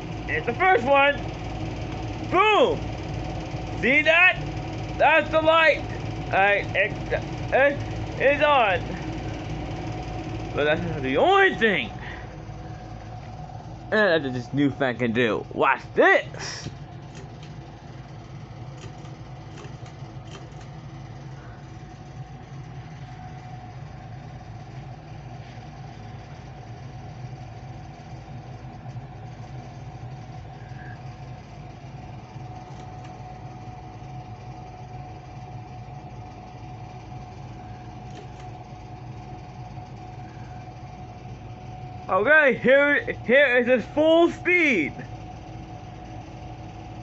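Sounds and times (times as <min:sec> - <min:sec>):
ceiling fan motor humming: 0:00.0 - 0:47.0.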